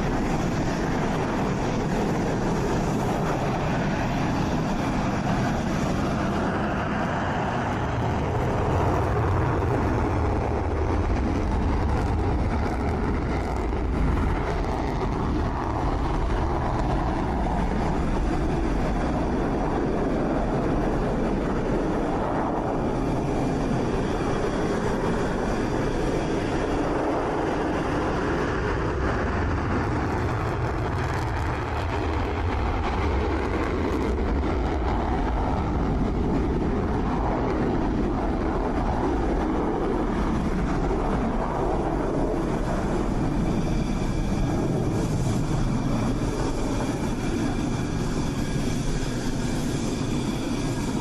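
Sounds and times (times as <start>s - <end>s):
jet engines running: 0.0s - 51.0s.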